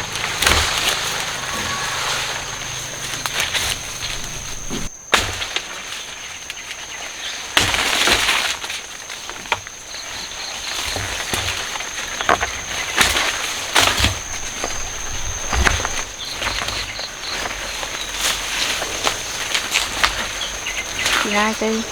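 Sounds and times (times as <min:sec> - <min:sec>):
high insect trill: 0:00.0 - 0:21.9
leaves and stalks rustling and snapping: 0:00.0 - 0:21.9.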